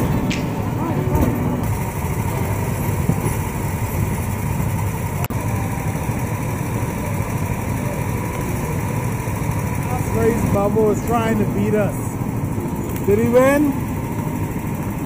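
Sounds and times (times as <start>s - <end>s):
go-kart engines idling: 0.0s - 15.0s.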